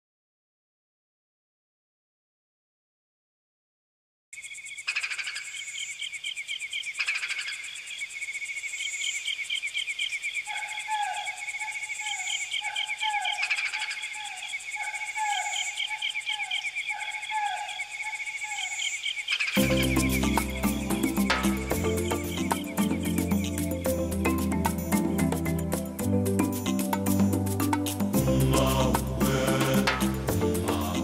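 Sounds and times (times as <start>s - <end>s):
crickets chirping: 4.4s - 31.0s.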